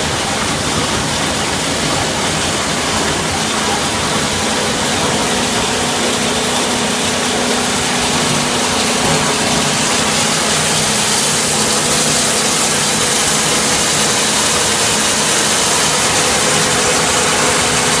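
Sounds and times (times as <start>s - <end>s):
crusher and belt conveyor running: 0.0s - 18.0s.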